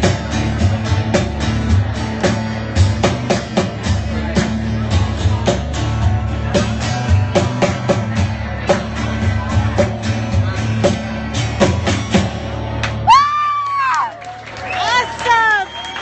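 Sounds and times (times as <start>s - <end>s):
drum kit beat: 0.0s - 13.2s.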